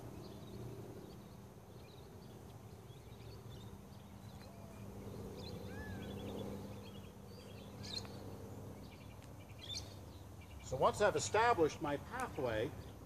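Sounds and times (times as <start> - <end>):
steady low hum: 0.0 - 13.0
faint bird chirps: 0.1 - 10.8.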